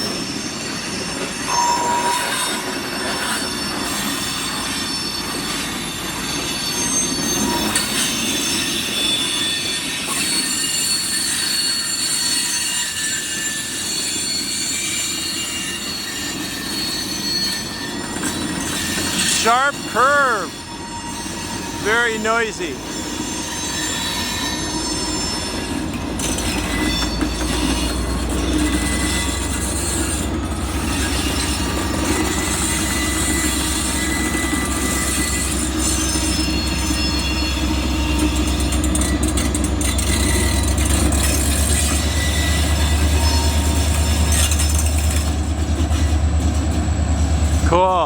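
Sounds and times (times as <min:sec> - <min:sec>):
low rumble of freight cars: 0:00.0 - 0:48.0
train wheels squealing on rail: 0:00.0 - 0:48.0.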